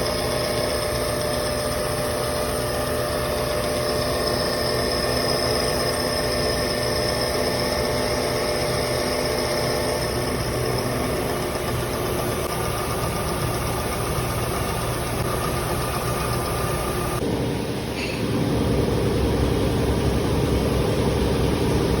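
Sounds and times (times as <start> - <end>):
milling machine humming: 0.0 - 22.0.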